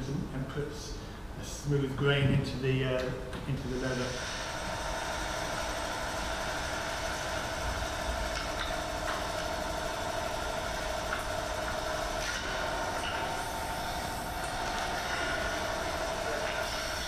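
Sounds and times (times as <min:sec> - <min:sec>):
printing press hum: 0:01.8 - 0:17.0.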